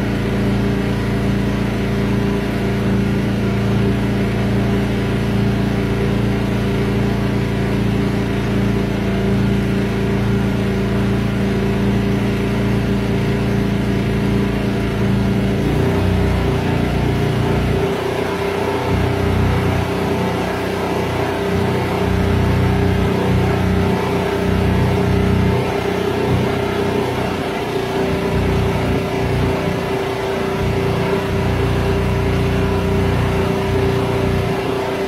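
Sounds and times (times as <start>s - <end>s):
motorboat engine hum: 0.0s - 35.0s.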